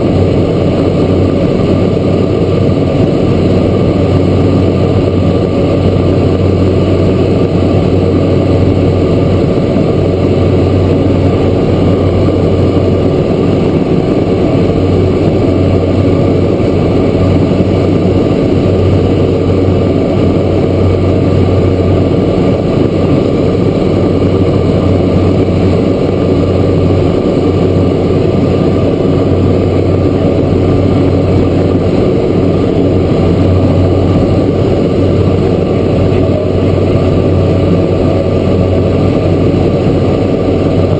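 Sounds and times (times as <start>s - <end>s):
turboprop engine and propeller drone: 0.0s - 40.9s.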